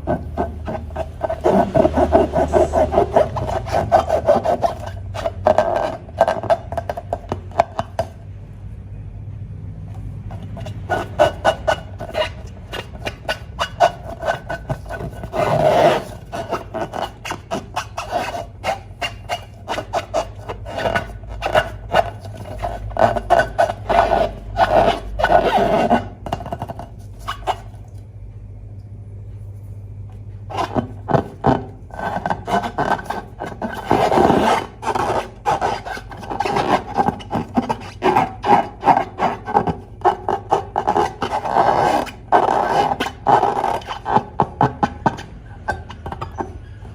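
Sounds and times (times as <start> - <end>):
rubber balloon squeaking: 0.0 - 8.2, 10.3 - 27.9, 30.5 - 46.9.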